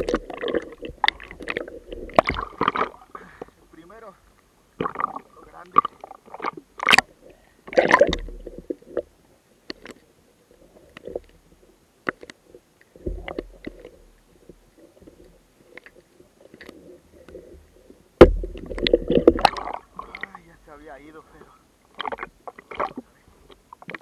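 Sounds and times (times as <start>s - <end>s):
muffled underwater sloshing: 0.0s - 24.0s.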